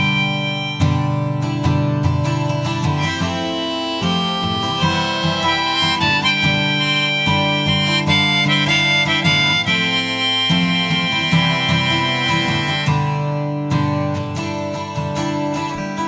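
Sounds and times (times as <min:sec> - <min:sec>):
acoustic guitar accompaniment: 0:00.0 - 0:16.0
harmonica melody: 0:00.0 - 0:16.0.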